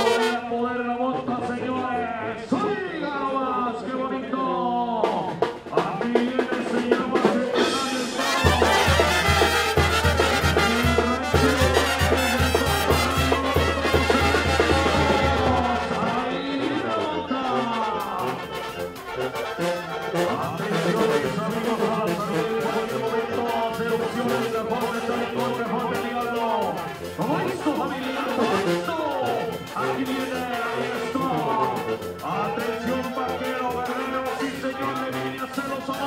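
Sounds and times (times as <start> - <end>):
brass band music: 0.0 - 2.7, 5.3 - 36.0.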